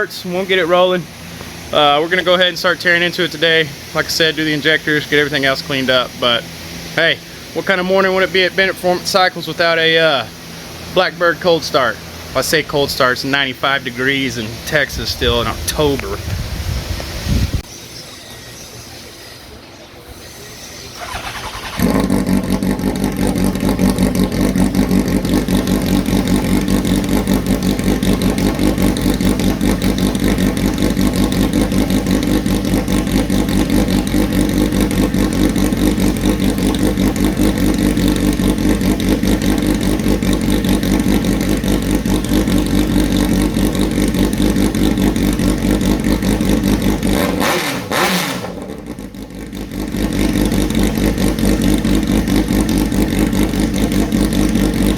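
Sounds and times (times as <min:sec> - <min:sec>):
motorcycle engine running: 0:00.0 - 0:17.7, 0:20.9 - 0:54.9.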